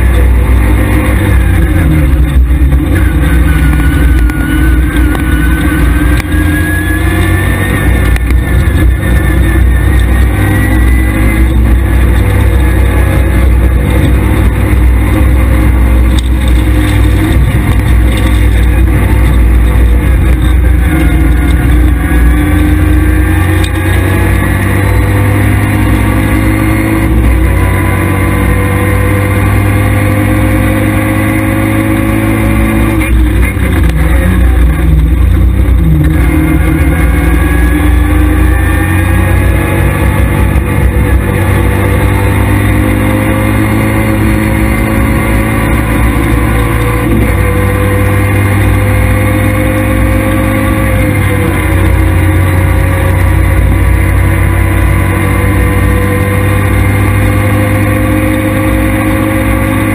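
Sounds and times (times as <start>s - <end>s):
rally car engine revving: 0.0s - 59.9s
road and cabin rumble: 0.0s - 59.9s.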